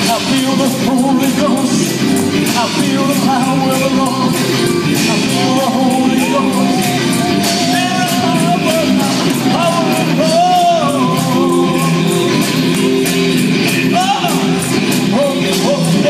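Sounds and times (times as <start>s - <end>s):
drums with steady beat: 0.0s - 16.0s
electric guitars: 0.0s - 16.0s
man singing: 0.0s - 16.0s.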